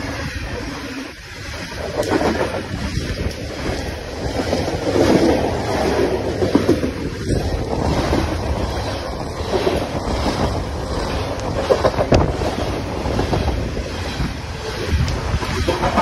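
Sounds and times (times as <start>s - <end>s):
train wheels rumbling on rail: 0.0s - 16.0s
wheels clicking over rail joints: 0.0s - 16.0s.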